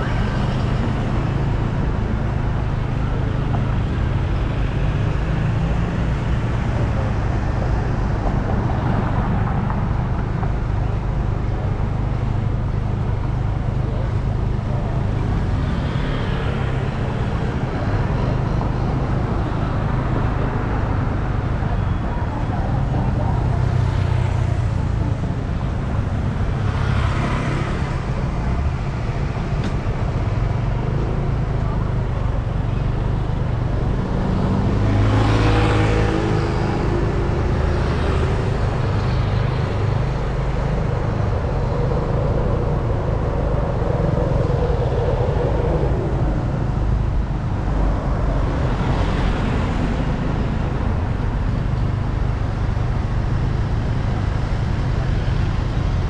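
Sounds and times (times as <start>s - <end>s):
road traffic rumble: 0.0s - 56.0s
vehicles passing close by: 0.0s - 56.0s.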